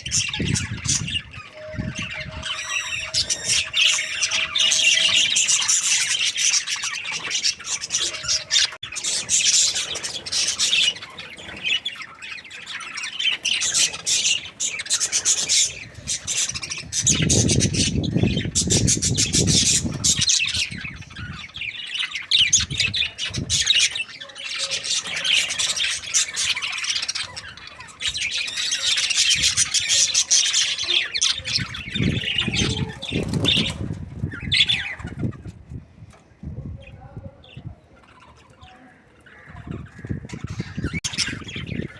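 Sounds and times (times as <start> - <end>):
budgerigars chattering: 0.0 - 35.5, 36.8 - 41.9.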